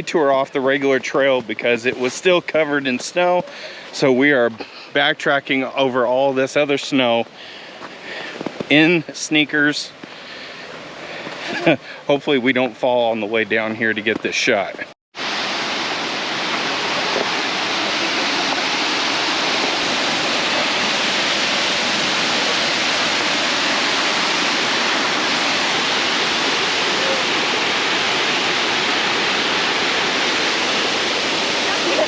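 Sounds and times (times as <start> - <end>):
waterfall rushing: 0.0 - 12.0, 15.2 - 32.0.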